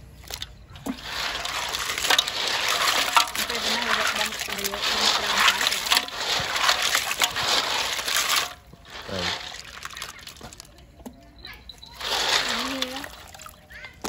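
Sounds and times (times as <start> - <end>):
water splashing and sloshing: 0.0 - 14.0
faint voices: 0.5 - 14.0.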